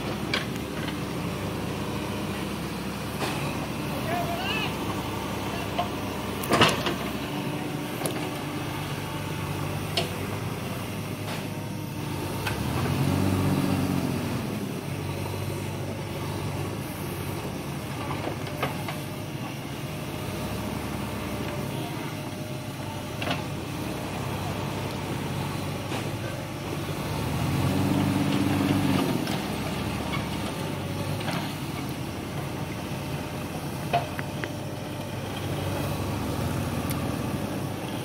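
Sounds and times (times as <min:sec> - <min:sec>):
backhoe diesel engine running: 0:00.0 - 0:38.0.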